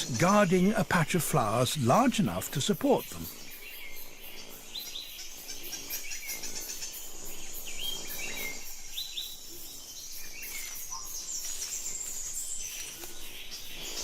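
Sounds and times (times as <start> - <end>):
birds chirping and calling: 0.0 - 14.0
pulsing insect chorus: 0.0 - 14.0.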